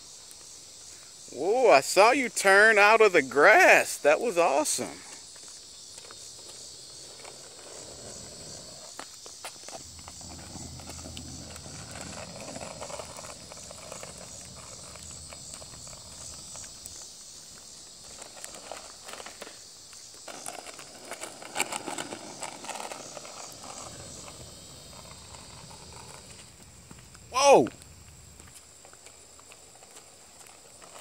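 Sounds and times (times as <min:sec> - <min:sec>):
skateboard wheels rolling on asphalt: 0:00.0 - 0:31.0
steady high hiss: 0:00.0 - 0:31.0.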